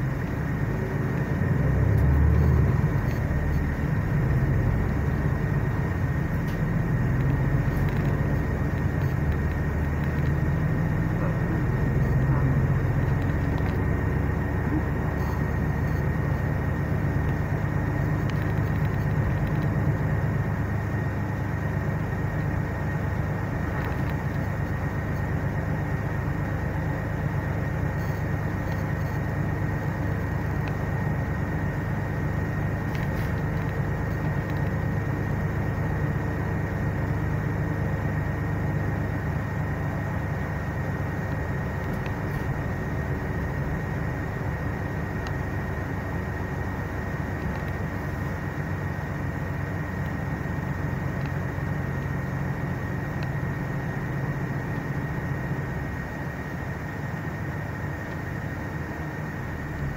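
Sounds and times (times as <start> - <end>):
bus cabin rumble: 0.0 - 59.9
high whine: 0.0 - 59.9.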